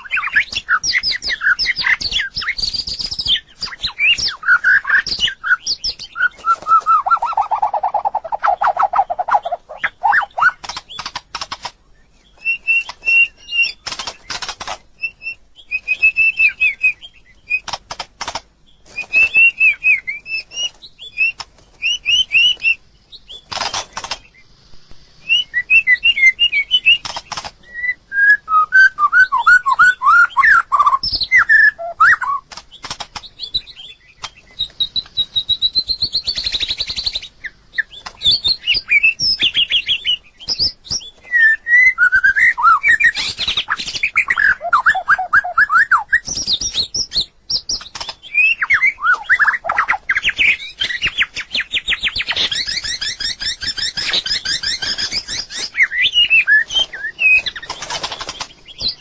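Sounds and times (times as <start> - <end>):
bird singing whistled phrases: 0.0 - 11.1, 12.0 - 13.9, 15.0 - 17.7, 19.0 - 23.4, 25.2 - 32.5, 33.4 - 59.0
bird sharp clicks: 0.0 - 15.2, 15.8 - 25.0, 25.8 - 27.6, 29.4 - 41.1, 42.2 - 59.0.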